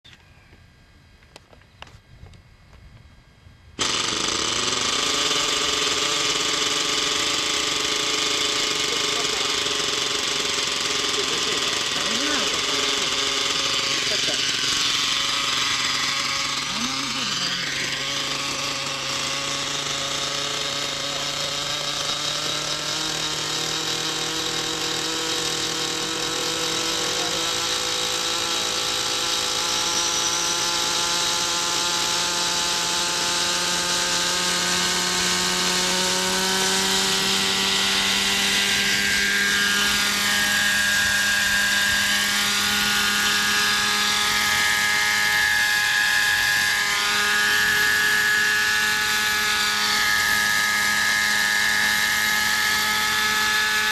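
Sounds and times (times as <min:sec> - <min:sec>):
model helicopter engine running: 0:00.1 - 0:53.9
spinning rotors buzzing: 0:03.6 - 0:53.9.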